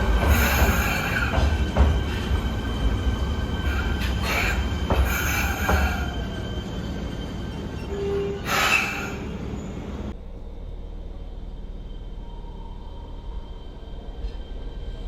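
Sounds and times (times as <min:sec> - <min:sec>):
train rolling noise: 0:00.0 - 0:15.0
train squeals: 0:00.0 - 0:15.0.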